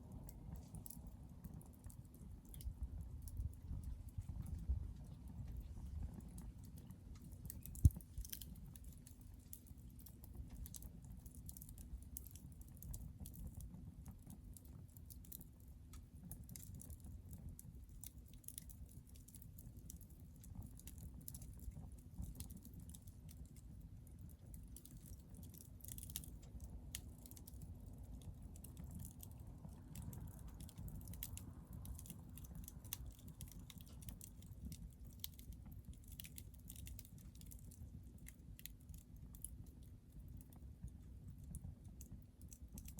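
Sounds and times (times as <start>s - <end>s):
fire crackling and popping: 0.0s - 42.9s
low rush of burning: 0.0s - 42.9s.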